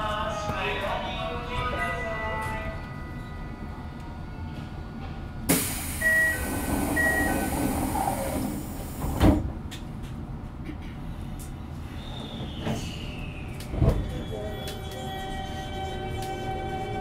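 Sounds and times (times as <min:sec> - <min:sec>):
subway car hum: 0:00.0 - 0:17.0.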